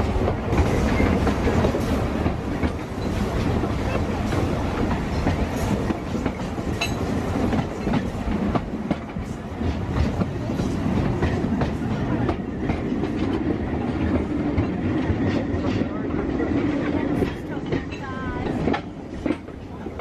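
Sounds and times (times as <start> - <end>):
railway carriage rumble: 0.0 - 20.0
wheels clicking on rails: 0.0 - 20.0.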